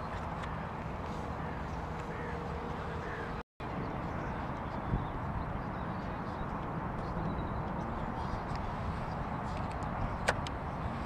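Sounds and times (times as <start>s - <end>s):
faint distant calls: 0.0s - 11.0s
outdoor background noise: 0.0s - 11.0s.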